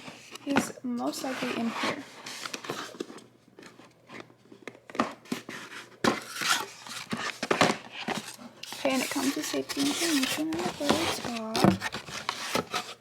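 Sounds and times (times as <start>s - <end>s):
packaging rustling: 1.5s - 13.0s.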